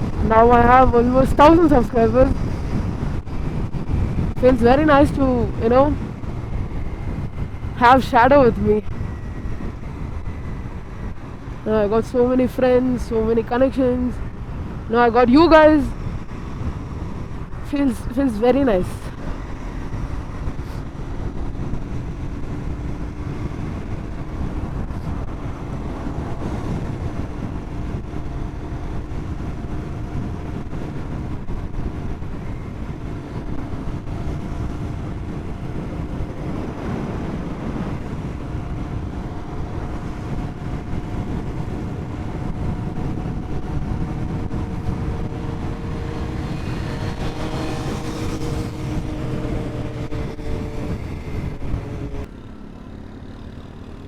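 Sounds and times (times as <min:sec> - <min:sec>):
motorcycle engine cruising: 0:00.0 - 0:17.7, 0:18.4 - 0:54.0
wind and road noise: 0:00.0 - 0:54.0.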